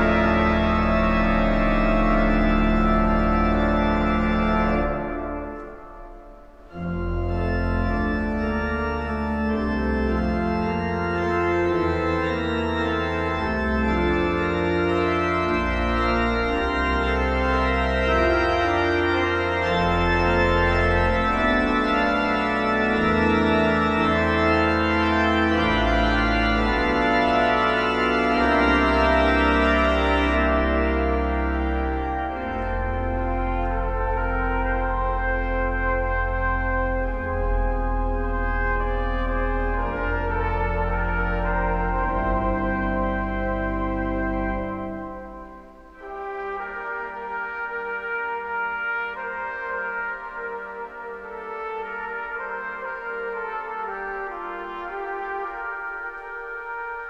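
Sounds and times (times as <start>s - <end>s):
organ sustained chords: 0.0s - 57.0s.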